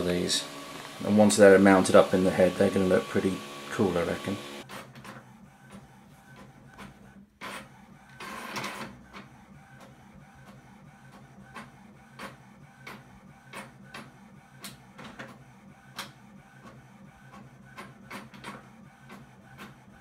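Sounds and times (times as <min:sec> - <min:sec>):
printer motor hum: 0:00.0 - 0:20.0.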